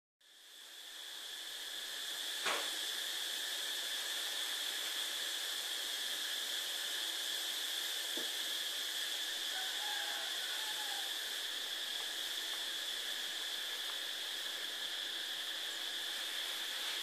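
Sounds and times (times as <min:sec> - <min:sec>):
high-pitched background hiss: 0:00.2 - 0:17.0.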